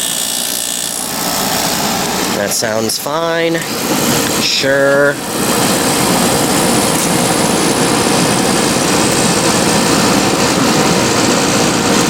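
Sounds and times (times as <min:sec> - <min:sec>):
air conditioner fan blowing: 0:00.0 - 0:12.0
compressor hum: 0:00.0 - 0:12.0.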